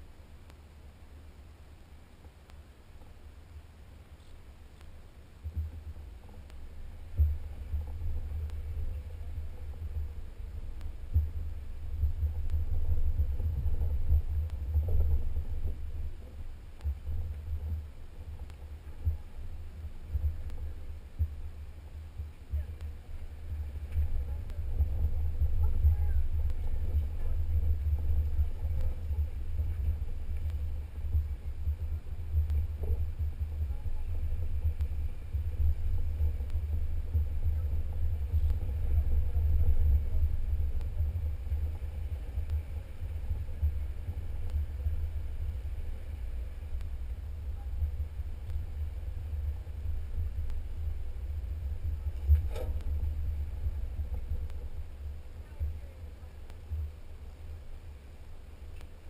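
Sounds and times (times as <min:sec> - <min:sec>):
muffled rumble of vehicle driving: 0:00.0 - 0:59.0.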